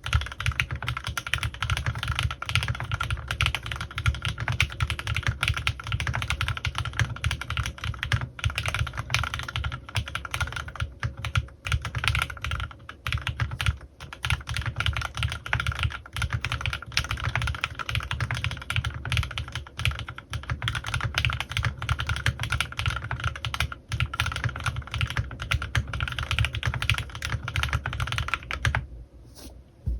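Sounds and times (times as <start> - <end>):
fast typing on mechanical keyboard: 0.0 - 28.8.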